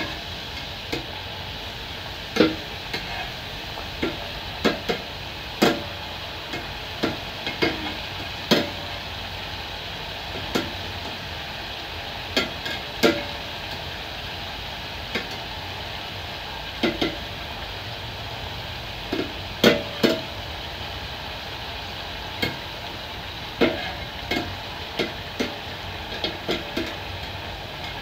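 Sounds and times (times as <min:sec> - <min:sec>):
dough sizzling in hot oil: 0:00.0 - 0:28.0.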